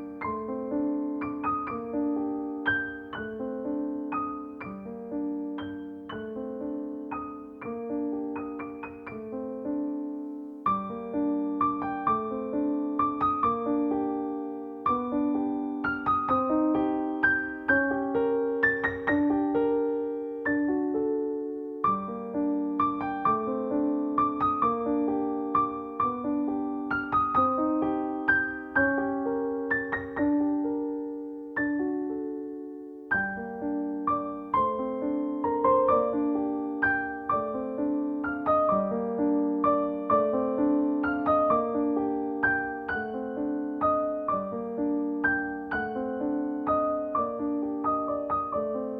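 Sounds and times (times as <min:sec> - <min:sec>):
gentle piano melody: 0:00.0 - 0:48.9.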